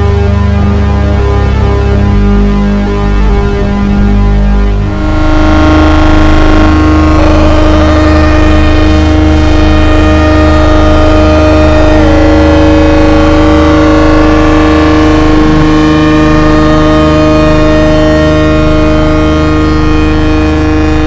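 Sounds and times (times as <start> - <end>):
low pulsing: 0.0 - 21.0
synthesizer drone: 0.0 - 21.0.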